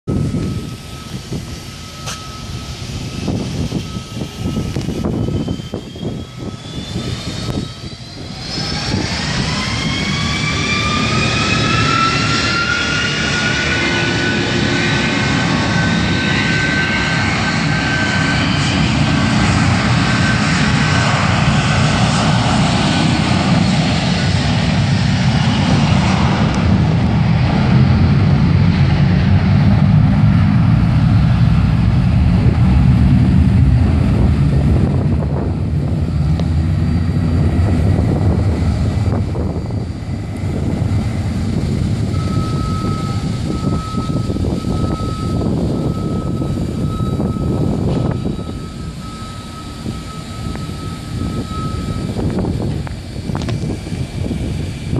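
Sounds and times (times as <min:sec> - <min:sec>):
deep jet rumble: 0:00.0 - 0:54.9
jet engine whine rising: 0:00.1 - 0:54.9.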